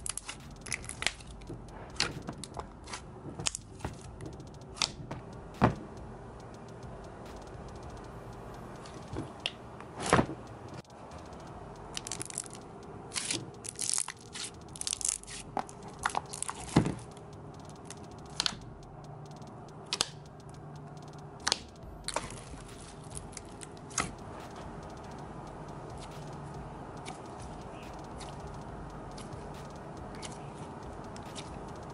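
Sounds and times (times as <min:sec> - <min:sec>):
slime squelching and clicking: 0:00.0 - 0:08.0, 0:08.6 - 0:31.9.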